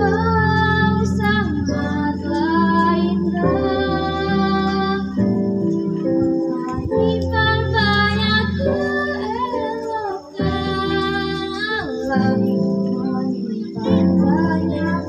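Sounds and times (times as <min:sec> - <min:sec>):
girl singing slow melody: 0:00.0 - 0:15.0
musical accompaniment: 0:00.0 - 0:15.0.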